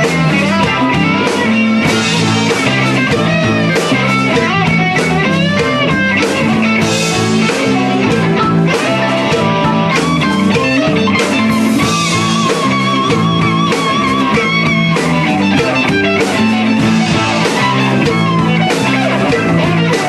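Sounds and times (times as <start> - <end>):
electric guitar: 0.0 - 20.0
rock band song: 0.0 - 20.0.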